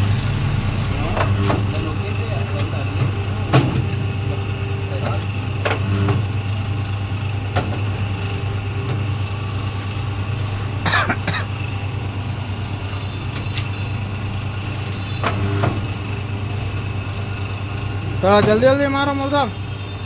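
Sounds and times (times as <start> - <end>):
press motor hum: 0.0 - 10.8, 11.5 - 18.8.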